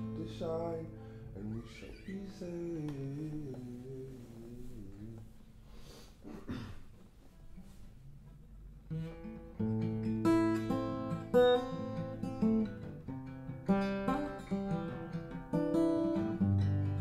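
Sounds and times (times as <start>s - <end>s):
acoustic guitar picked notes: 0.0s - 5.8s, 8.8s - 17.0s.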